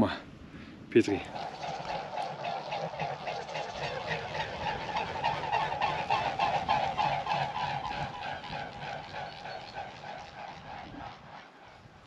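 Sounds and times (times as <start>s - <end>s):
geese honking: 1.1s - 11.6s.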